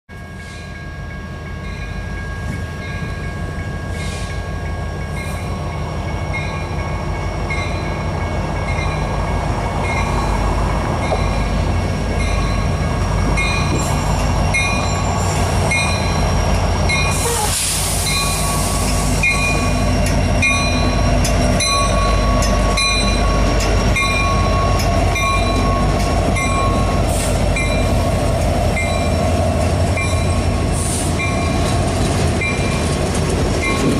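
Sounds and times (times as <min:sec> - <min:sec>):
diesel locomotive rumble: 0:00.2 - 0:33.9.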